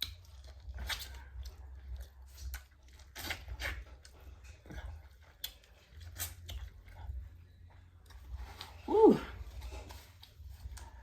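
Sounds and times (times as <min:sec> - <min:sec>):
low steady hum: 0:00.0 - 0:11.0
person chewing: 0:00.0 - 0:11.0.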